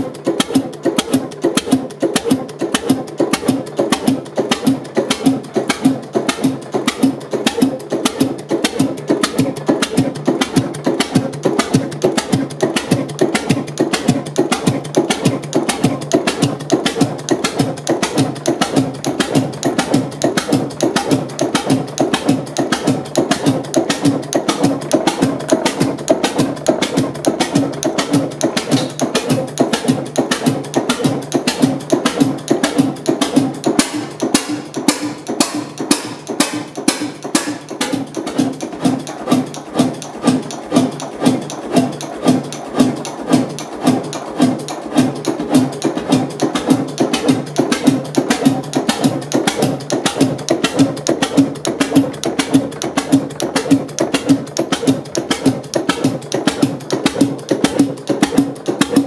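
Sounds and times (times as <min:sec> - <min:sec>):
stationary engine clacking: 0:00.0 - 0:59.0.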